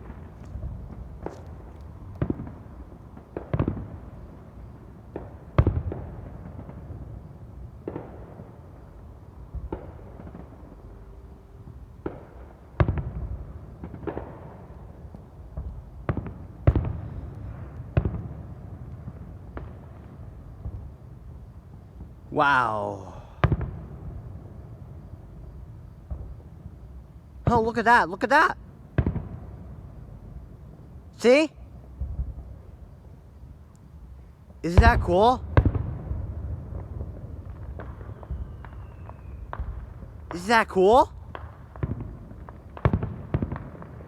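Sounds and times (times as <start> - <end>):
fireworks bangs and pops: 0.0 - 8.8, 9.4 - 10.8, 12.0 - 21.0, 21.9 - 25.1, 26.0 - 29.7, 34.5 - 44.0.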